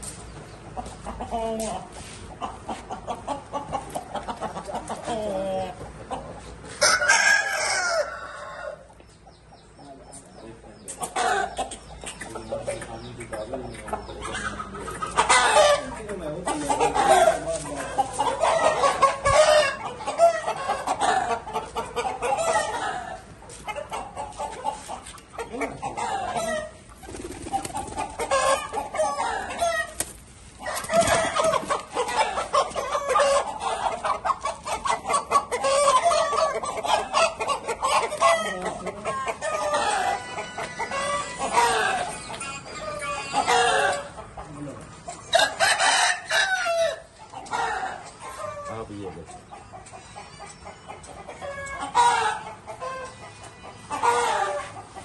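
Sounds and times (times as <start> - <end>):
fowl clucking: 0.7 - 8.6, 10.0 - 55.0
roosters crowing: 3.1 - 9.4, 11.1 - 11.6, 14.2 - 24.4, 25.4 - 49.1, 49.9 - 55.0.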